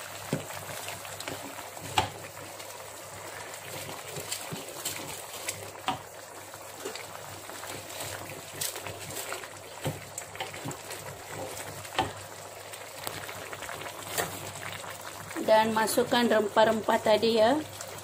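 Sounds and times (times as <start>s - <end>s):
curry bubbling in a pot: 0.0s - 18.0s.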